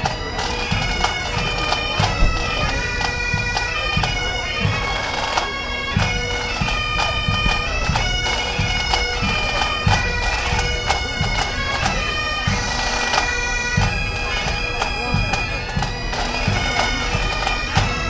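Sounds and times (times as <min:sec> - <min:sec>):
bagpipes playing a tune: 0:00.0 - 0:18.0
regular low drum beat: 0:00.0 - 0:18.0.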